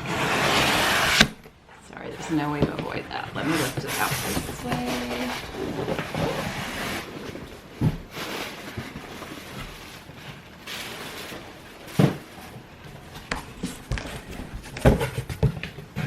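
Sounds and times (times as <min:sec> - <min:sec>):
cardboard scraping and rustling: 0:00.0 - 0:01.4, 0:03.4 - 0:16.0.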